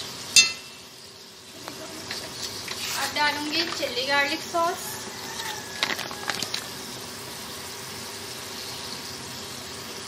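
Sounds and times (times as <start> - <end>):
sauce bubbling in a pan: 0.0 - 3.0, 4.8 - 10.0.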